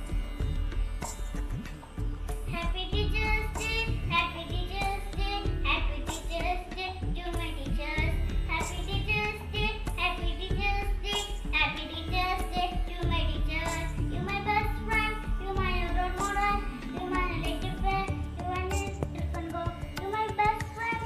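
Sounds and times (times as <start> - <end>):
song with percussion beat: 0.0 - 21.0.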